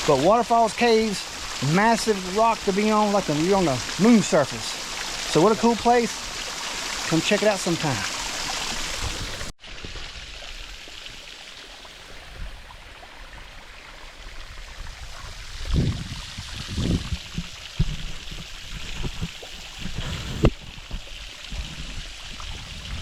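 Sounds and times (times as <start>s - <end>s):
stream running over rock: 0.0s - 23.0s.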